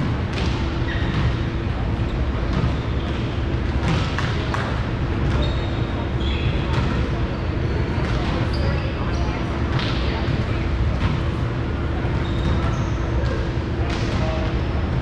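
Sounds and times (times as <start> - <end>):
gymnasium hall ambience: 0.0 - 15.0.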